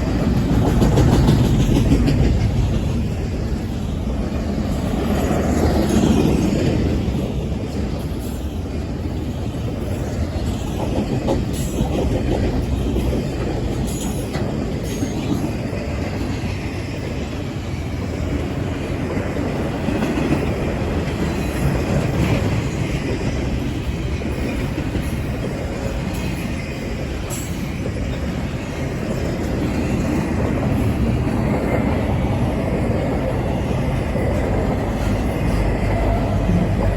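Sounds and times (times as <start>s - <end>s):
rail clicks: 0.0s - 36.9s
train wheels rumbling on track: 0.0s - 36.9s.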